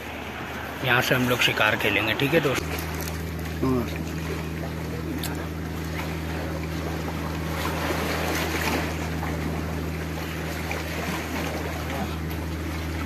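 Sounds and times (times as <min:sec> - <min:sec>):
boat engine drone: 0:00.0 - 0:13.0
water lapping against rocks: 0:00.0 - 0:13.0.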